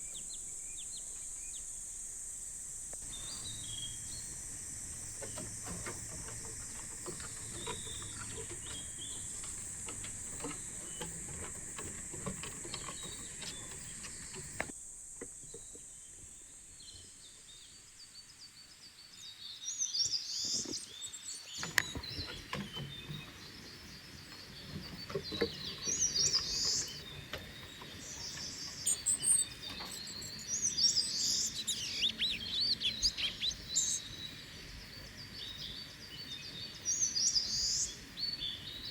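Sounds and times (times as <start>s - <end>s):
high insect drone: 0.0s - 19.8s, 21.5s - 38.9s
songbirds chirping: 0.0s - 38.9s.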